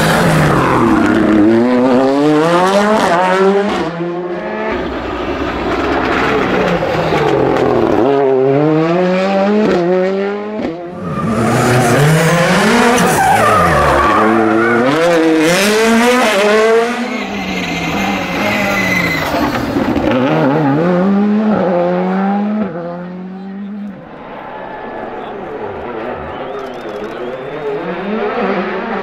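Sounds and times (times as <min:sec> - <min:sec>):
rally car engines accelerating: 0:00.0 - 0:29.0.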